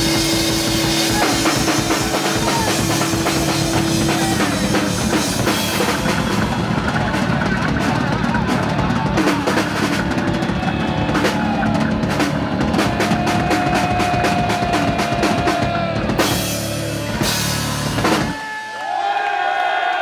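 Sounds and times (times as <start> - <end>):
drum hits and crashing cymbals: 0.0 - 18.7
rock band playing: 0.0 - 18.8.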